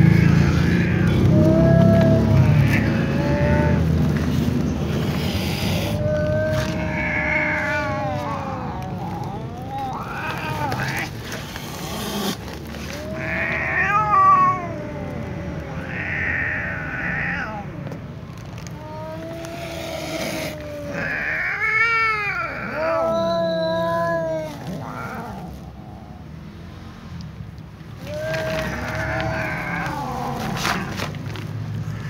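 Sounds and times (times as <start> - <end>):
cats meowing and yowling: 0.0 - 26.5, 27.8 - 32.0.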